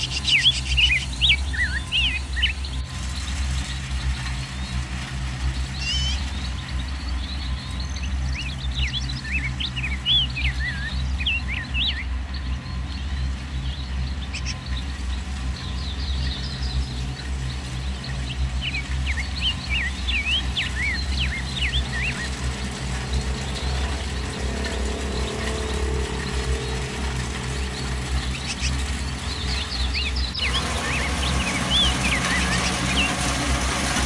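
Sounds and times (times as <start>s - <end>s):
diesel engine running: 0.0s - 34.0s
small birds chirping: 0.0s - 34.0s.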